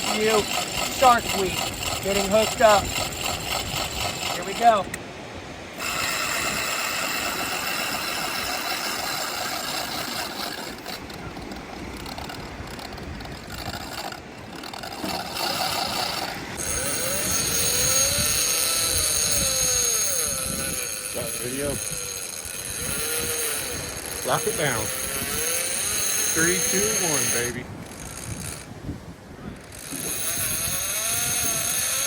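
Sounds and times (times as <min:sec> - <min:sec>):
fishing reel drag screaming: 0:00.0 - 0:05.0, 0:05.7 - 0:28.7, 0:29.5 - 0:32.0.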